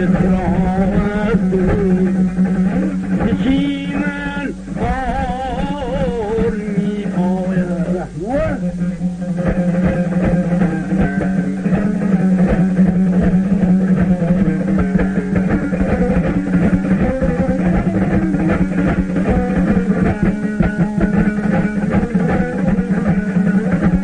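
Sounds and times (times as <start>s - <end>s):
plucked string instrument: 0.0s - 24.0s.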